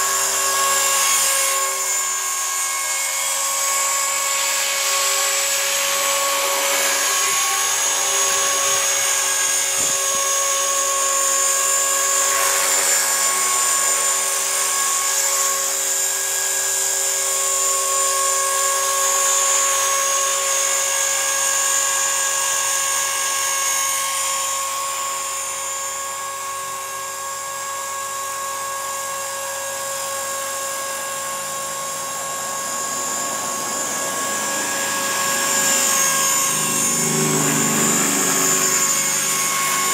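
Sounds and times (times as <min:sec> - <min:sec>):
rc helicopter whine: 0:00.0 - 0:39.9.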